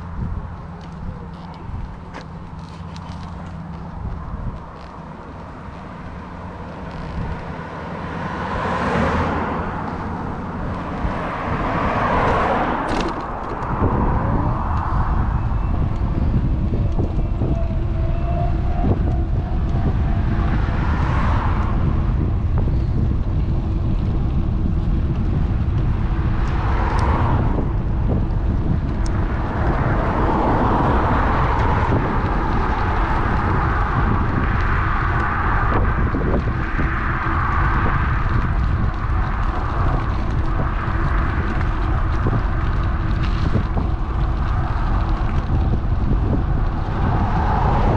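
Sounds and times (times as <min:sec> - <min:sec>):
cars passing by: 0:00.0 - 0:47.9
wind buffeting microphone: 0:00.0 - 0:47.9.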